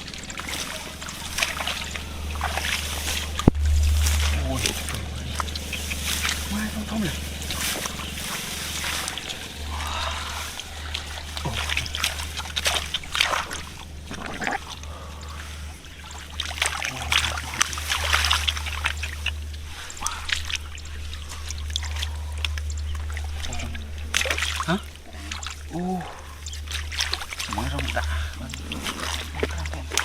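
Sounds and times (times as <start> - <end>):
shallow water splashing: 0.0 - 30.0.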